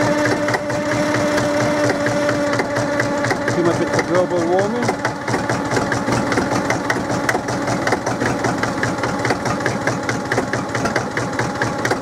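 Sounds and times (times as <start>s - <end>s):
diesel engine clattering: 0.1s - 12.0s.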